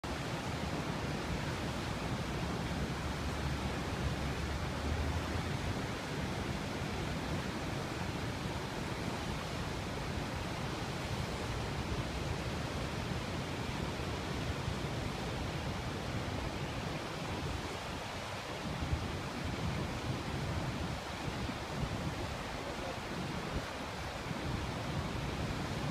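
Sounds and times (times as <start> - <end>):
rushing roar of rapids and waterfall: 0.0 - 25.9
wind rumble on microphone: 0.2 - 25.9.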